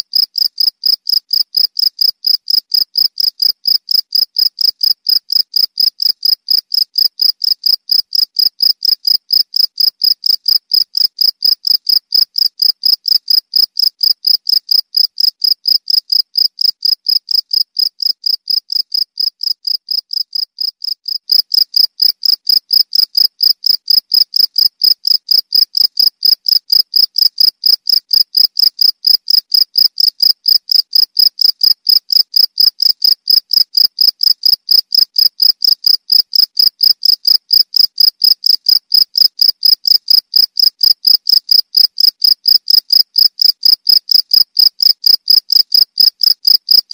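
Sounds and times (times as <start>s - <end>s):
cricket chirping: 0.1s - 46.9s.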